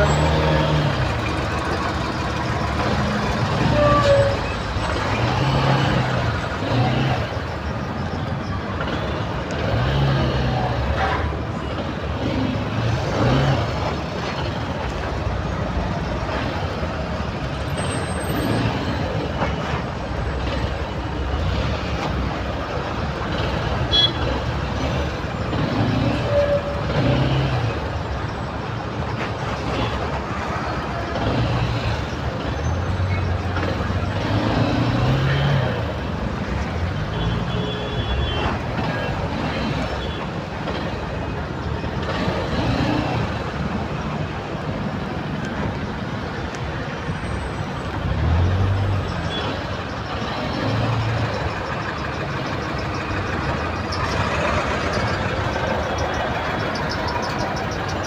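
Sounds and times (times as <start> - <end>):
truck engines running: 0.0 - 58.0.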